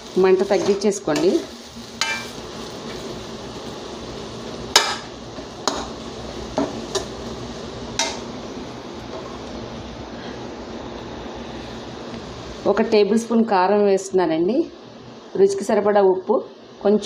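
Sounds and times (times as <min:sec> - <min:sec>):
low hiss from pan: 0:00.0 - 0:17.0.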